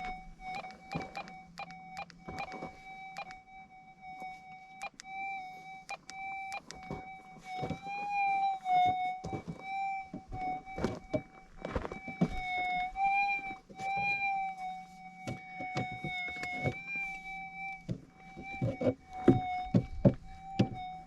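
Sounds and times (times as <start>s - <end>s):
metal detector electronic tone: 0.0s - 3.5s, 4.1s - 21.0s.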